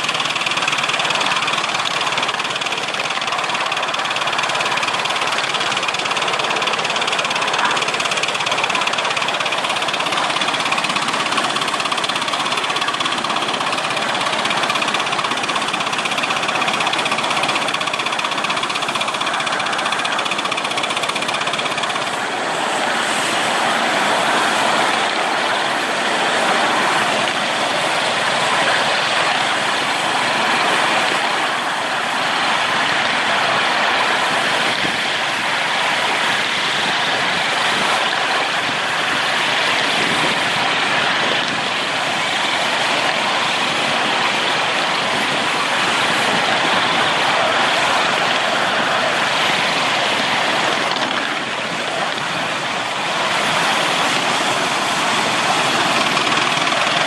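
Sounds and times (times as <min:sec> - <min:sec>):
model steam locomotive exhaust: 0:00.0 - 0:57.0
wheels running on rails: 0:00.0 - 0:57.0.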